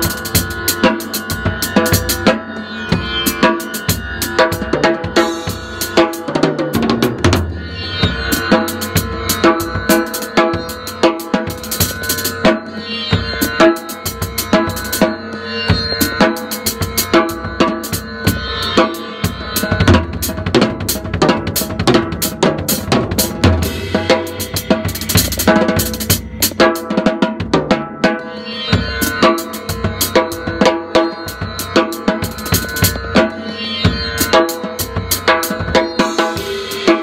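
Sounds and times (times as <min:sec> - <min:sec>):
sitar tones from percussion pad: 0:00.0 - 0:27.2, 0:28.0 - 0:37.0
acoustic drum kit: 0:00.0 - 0:37.0.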